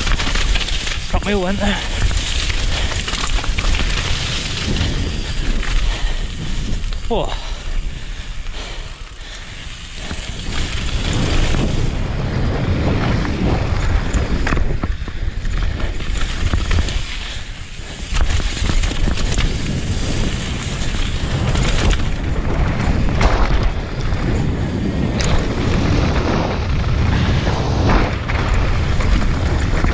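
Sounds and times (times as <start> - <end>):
tyres crunching on gravel: 0.0 - 26.5
bike clattering over stones: 0.0 - 29.9
wind buffeting microphone: 0.0 - 29.9.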